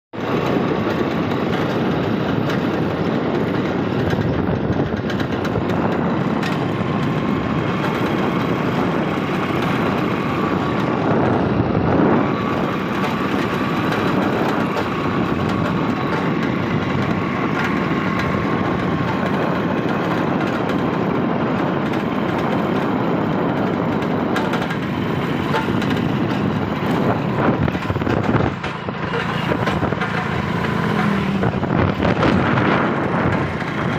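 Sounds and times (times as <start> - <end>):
vehicle road noise: 0.1 - 33.9.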